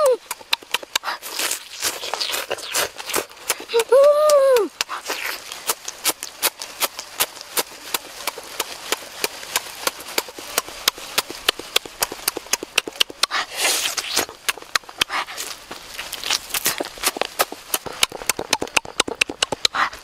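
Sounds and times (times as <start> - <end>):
chewing and lip-smacking: 0.0 - 20.0.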